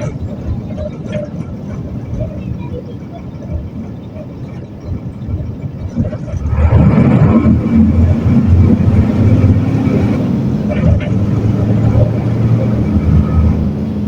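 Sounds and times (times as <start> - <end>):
diesel bus engine running: 0.0 - 14.0.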